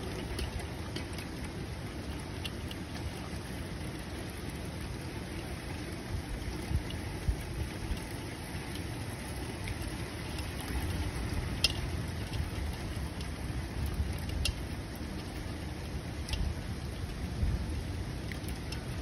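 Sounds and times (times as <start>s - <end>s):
raindrops tapping close by: 0.0s - 19.0s
steady rain: 0.0s - 19.0s.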